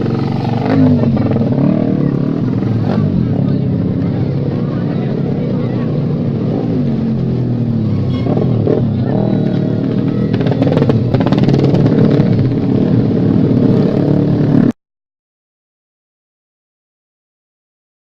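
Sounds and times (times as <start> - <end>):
racing motorcycle engines revving: 0.0 - 14.7.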